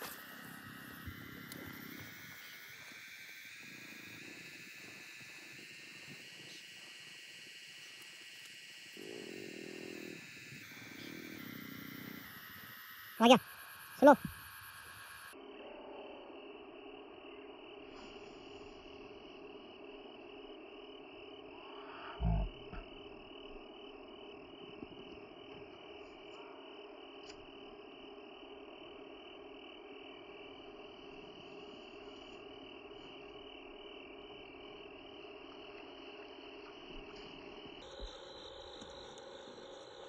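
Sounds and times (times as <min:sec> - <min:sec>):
insects chorus: 0:00.0 - 0:40.0.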